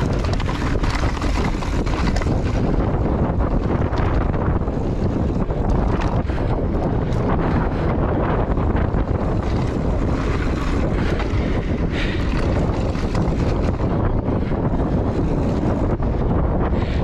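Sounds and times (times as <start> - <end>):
bike tyres crunching on dirt trail: 0.0 - 17.0
wind buffeting microphone: 0.0 - 17.0.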